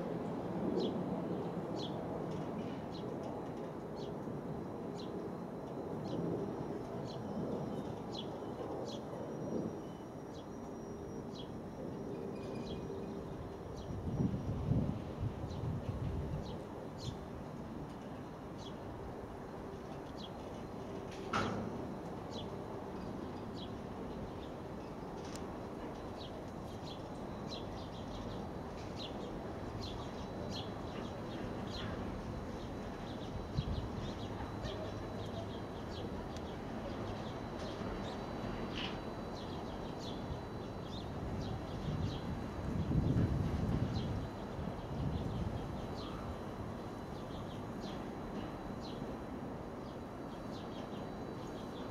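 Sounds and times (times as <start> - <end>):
steady outdoor background noise: 0.0 - 51.9.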